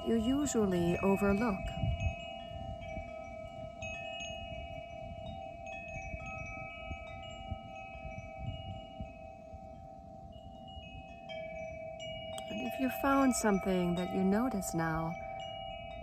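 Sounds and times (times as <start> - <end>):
wind chimes ringing: 0.0 - 16.0.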